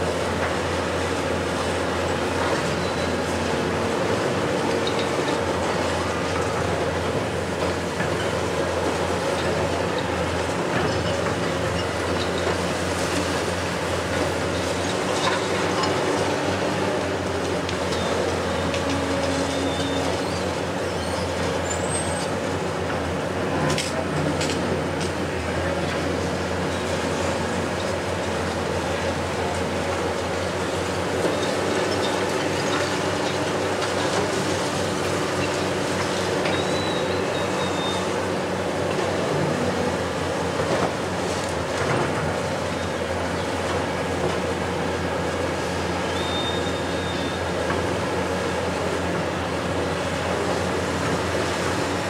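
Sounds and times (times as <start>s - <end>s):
excavator diesel engine and hydraulics: 0.0s - 52.0s.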